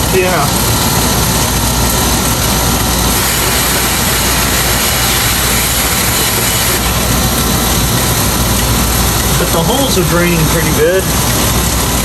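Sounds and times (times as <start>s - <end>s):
air conditioner unit running: 0.0s - 12.0s
garden hose spraying water: 0.1s - 12.0s.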